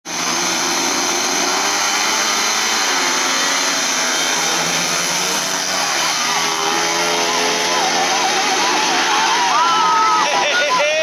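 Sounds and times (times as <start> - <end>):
motorbike engines racing at high revs: 0.0 - 11.0.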